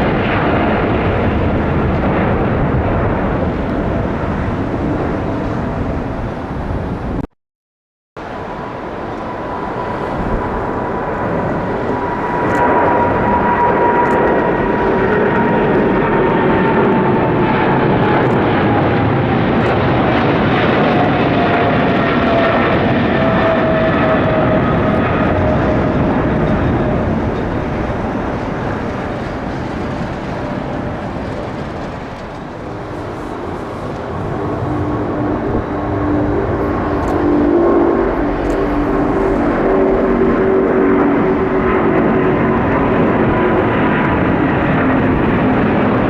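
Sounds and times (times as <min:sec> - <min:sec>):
jet engines passing: 0:00.0 - 0:07.3, 0:08.2 - 0:46.0.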